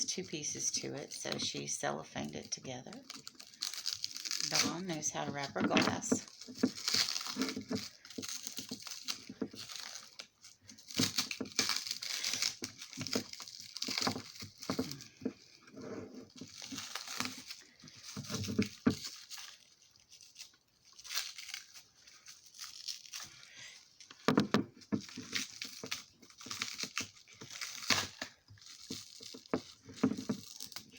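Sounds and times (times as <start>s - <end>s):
cellophane wrap crinkling: 0.0s - 30.9s.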